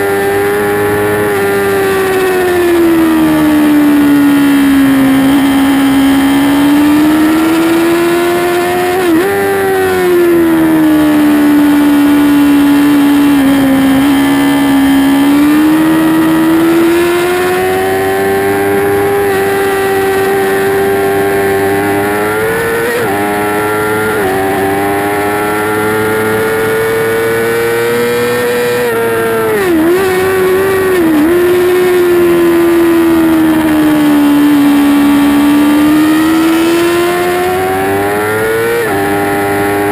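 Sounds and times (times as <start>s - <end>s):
motorcycle engine at racing speed: 0.0s - 39.9s.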